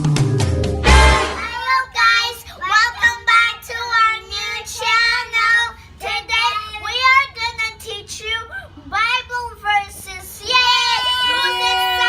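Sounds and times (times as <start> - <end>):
child singing: 1.3 - 12.0.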